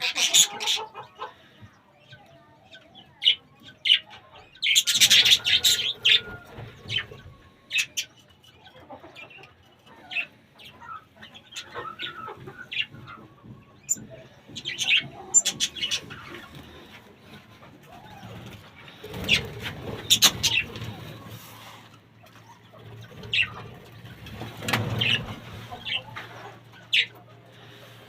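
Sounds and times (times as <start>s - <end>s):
birds chirping and calling: 0.0s - 28.0s
harsh bird calls: 0.0s - 28.0s.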